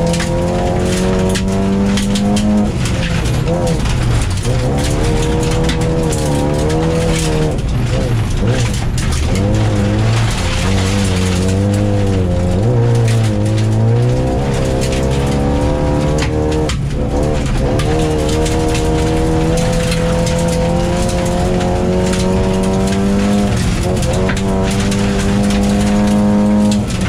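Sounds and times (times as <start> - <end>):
gravel clattering on car underside: 0.0 - 27.0
rally car engine revving: 0.0 - 27.0.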